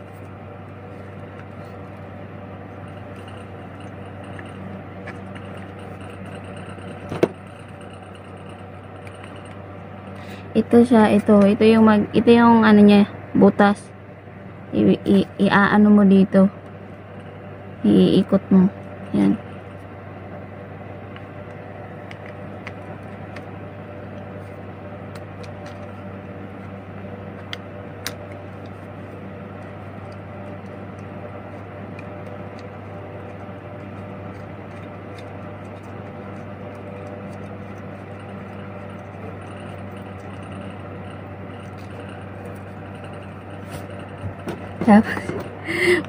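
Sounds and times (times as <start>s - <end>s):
ceiling fan humming: 0.0s - 46.0s.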